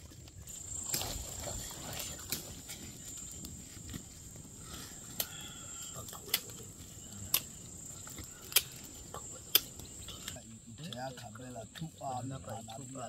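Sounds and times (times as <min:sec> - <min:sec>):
crickets buzzing: 0:00.0 - 0:13.0.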